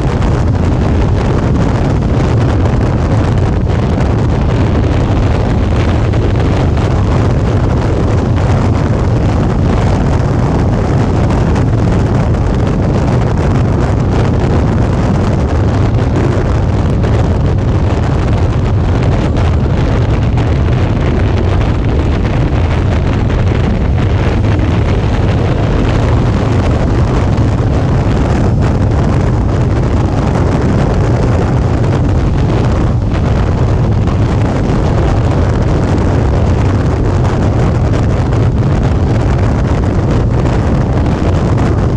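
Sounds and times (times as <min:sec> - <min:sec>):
motorcycle engine drone: 0:00.0 - 0:41.9
road noise: 0:00.0 - 0:41.9
wind noise on microphone: 0:00.0 - 0:41.9.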